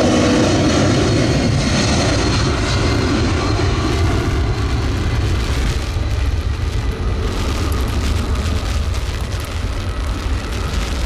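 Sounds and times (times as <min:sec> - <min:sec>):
high engine whine: 0:00.0 - 0:11.0
jet engines rumbling: 0:00.0 - 0:11.0.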